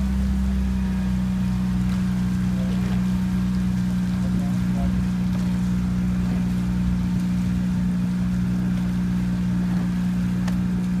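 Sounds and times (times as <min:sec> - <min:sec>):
outboard motor humming: 0:00.0 - 0:11.0.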